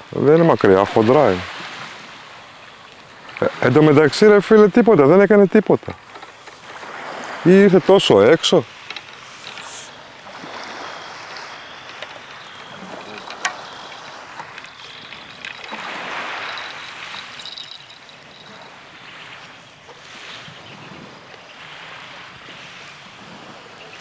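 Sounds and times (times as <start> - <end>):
sea waves washing on shore: 0.0 - 24.0.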